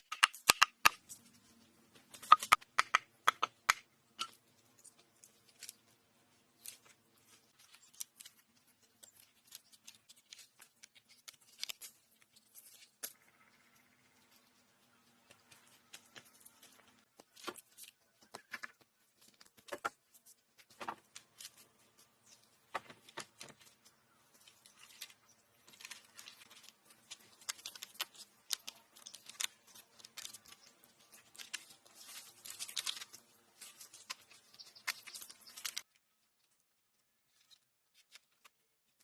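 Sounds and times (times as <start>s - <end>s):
twigs snapping and rustling: 0.0s - 39.0s.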